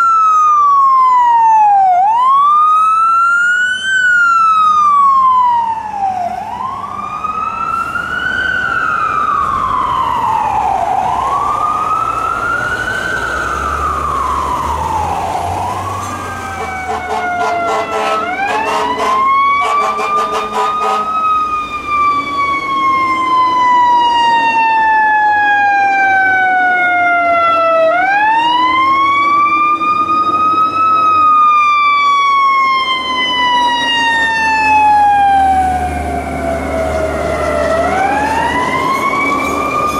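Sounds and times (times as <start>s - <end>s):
fire truck siren winding: 0.0s - 39.9s
wailing ambulance siren: 0.0s - 39.9s.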